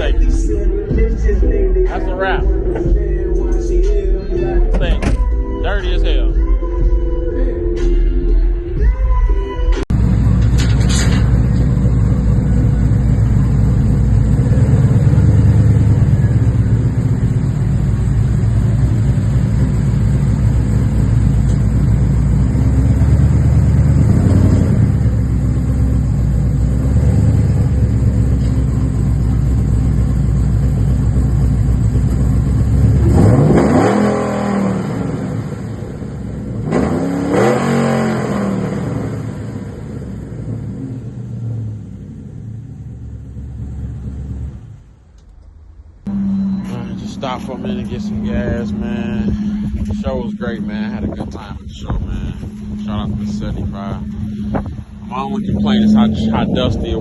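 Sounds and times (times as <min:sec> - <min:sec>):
vehicle engine rumbling and revving: 0:00.0 - 0:57.0.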